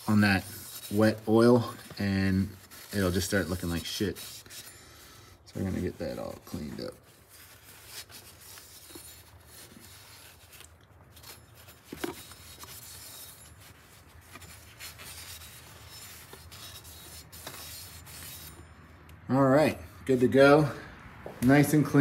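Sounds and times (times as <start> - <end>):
cloth rag scrubbing: 0.0 - 4.7, 5.5 - 18.5.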